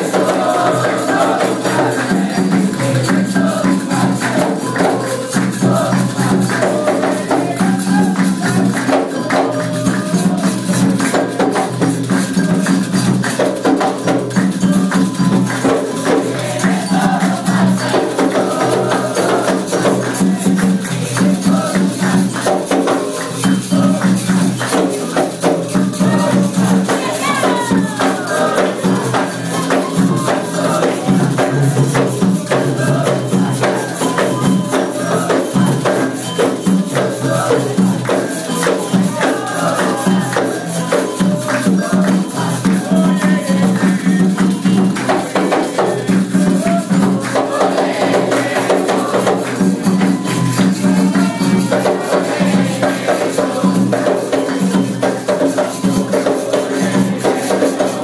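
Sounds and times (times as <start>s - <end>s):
hand drums: 0.0s - 58.0s
hand-clapping: 0.0s - 58.0s
shaken and struck percussion: 0.0s - 58.0s
voices singing: 0.0s - 58.0s.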